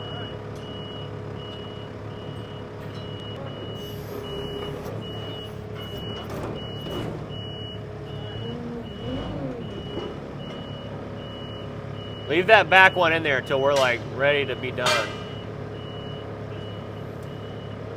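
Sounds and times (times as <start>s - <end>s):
backup alarm beeping: 0.0s - 17.8s
engine running: 0.1s - 17.9s.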